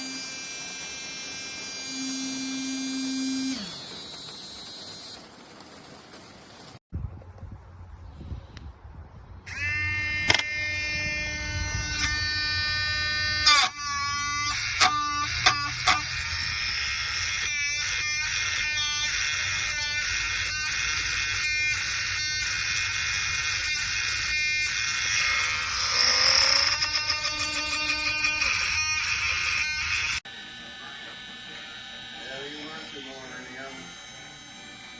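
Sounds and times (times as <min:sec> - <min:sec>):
rotary tool motor whining: 0:00.0 - 0:05.3, 0:09.5 - 0:34.9.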